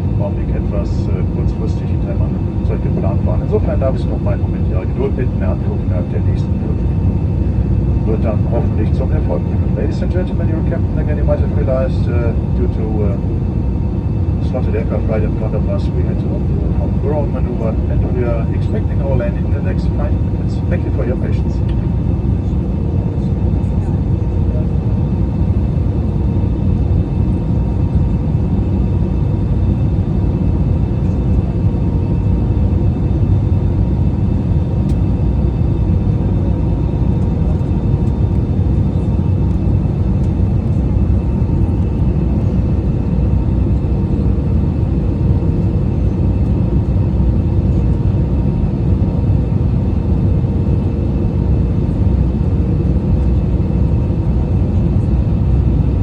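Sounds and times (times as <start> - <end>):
aircraft engine and airflow rumble: 0.0 - 56.0.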